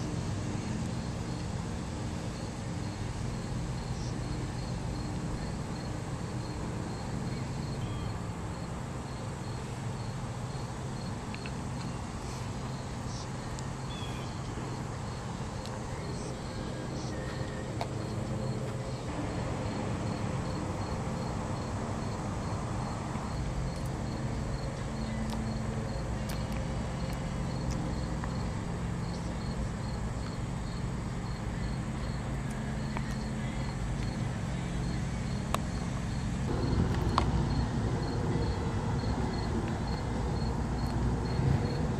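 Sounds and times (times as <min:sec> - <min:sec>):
low hum: 0:00.0 - 0:41.9
insect chirping: 0:00.6 - 0:41.9.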